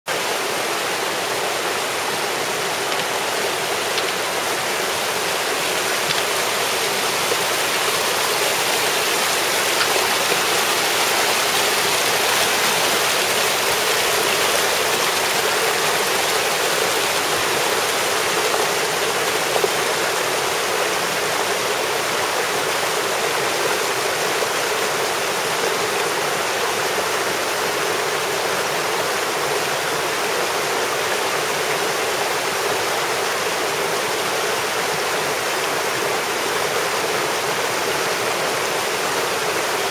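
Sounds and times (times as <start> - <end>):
river rushing over pebbles: 0.1 - 39.9.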